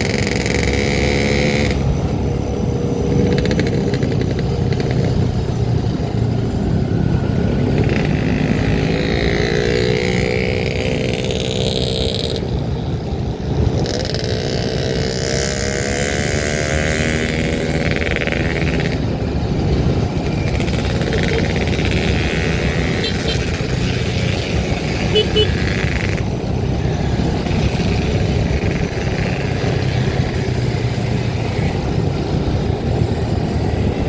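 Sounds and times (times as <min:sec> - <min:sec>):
road noise rumble: 0:00.0 - 0:34.0
vehicle engine revving: 0:00.0 - 0:34.0.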